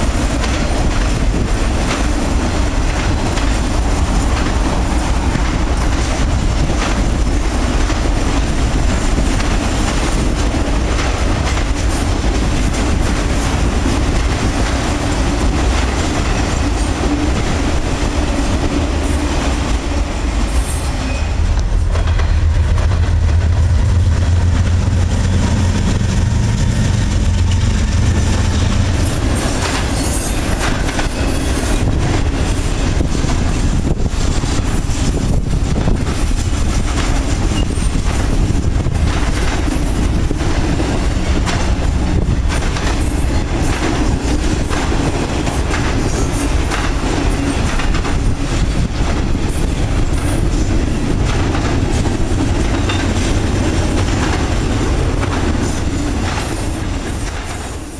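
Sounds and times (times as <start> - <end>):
diesel locomotive engine drone: 0.0 - 57.9
train wheels clattering over rail joints: 0.0 - 57.9.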